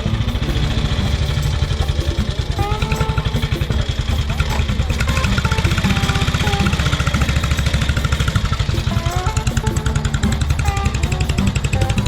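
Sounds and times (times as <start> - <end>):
engine idling: 0.0 - 12.0
faint voices: 0.0 - 12.0.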